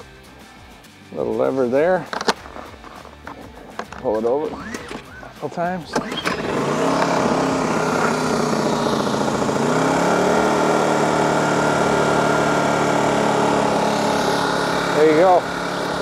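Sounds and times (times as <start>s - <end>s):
generator engine starting and running: 1.9s - 16.0s.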